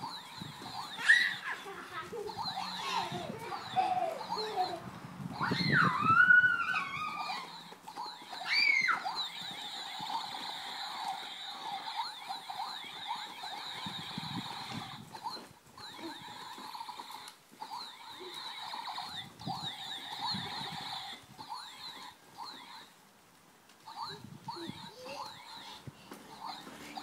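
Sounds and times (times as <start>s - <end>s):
trampoline springs squeaking: 0.0s - 23.0s, 23.8s - 27.0s.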